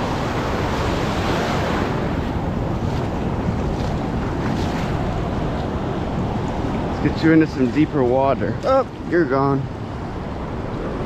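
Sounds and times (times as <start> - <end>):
ocean surf on beach: 0.0 - 11.0
wind on microphone: 0.0 - 11.0.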